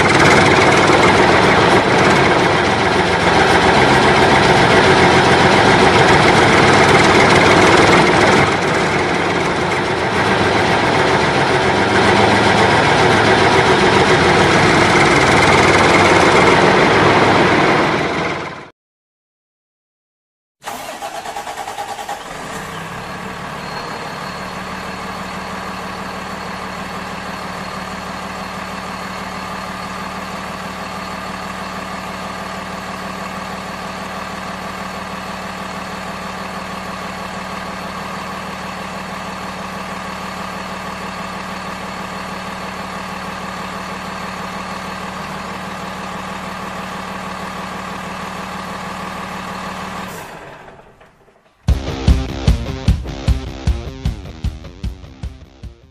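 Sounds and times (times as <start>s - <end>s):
truck engine idling: 0.0s - 18.6s, 20.6s - 55.8s.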